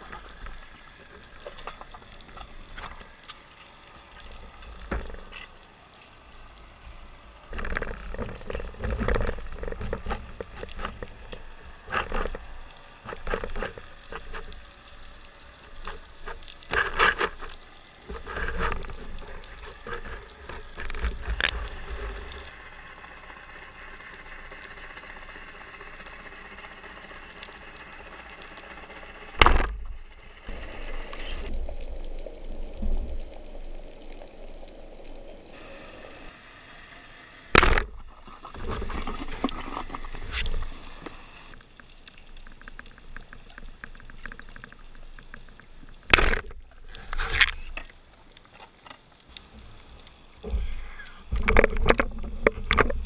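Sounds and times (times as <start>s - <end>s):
muffled underwater water rush: 0.0s - 53.0s.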